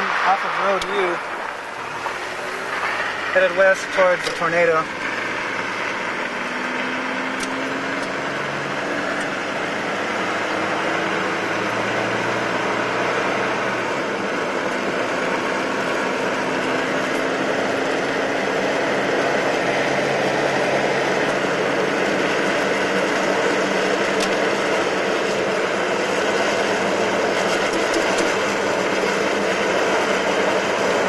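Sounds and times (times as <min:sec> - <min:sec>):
car engine hum: 0:00.0 - 0:31.0.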